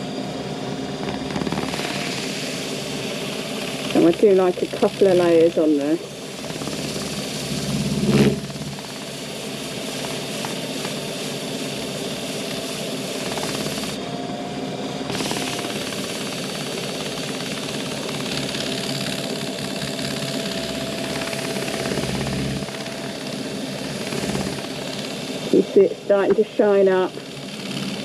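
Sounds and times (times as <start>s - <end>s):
lathe motor running: 0.0s - 28.0s.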